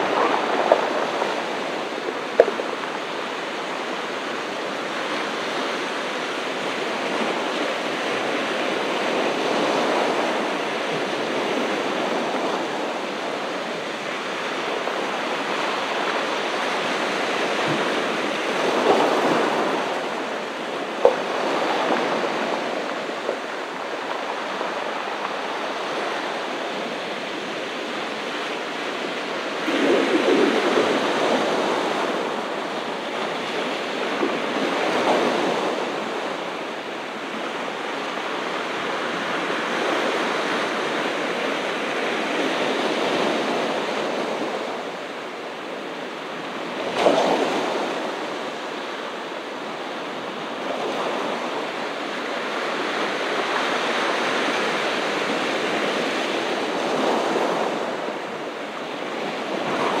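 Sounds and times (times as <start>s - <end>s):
ocean surf breaking: 0.0s - 60.0s
wave crashing: 0.0s - 60.0s.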